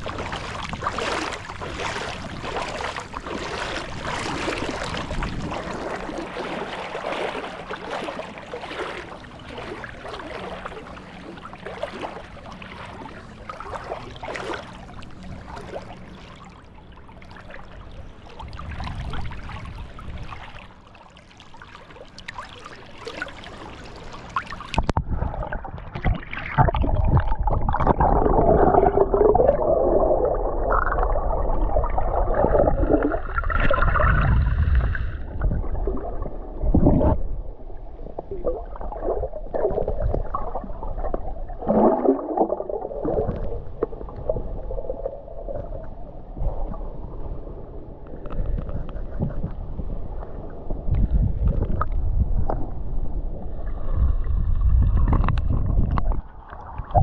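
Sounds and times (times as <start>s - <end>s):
gurgling water: 0.0s - 57.0s
sea water washing: 0.0s - 57.0s
wind: 0.0s - 57.0s.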